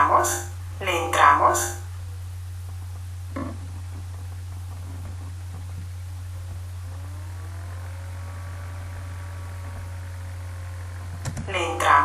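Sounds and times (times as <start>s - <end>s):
faint gliding tones: 0.0s - 12.0s
low hum: 0.0s - 12.0s.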